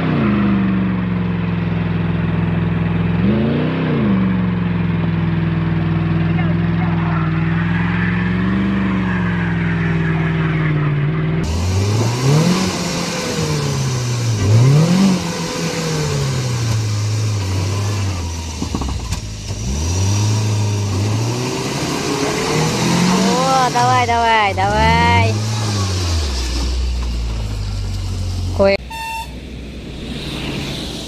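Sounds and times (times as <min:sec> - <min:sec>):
truck engine revving in mud: 0:00.0 - 0:28.6
truck engine at high revs: 0:00.0 - 0:31.0.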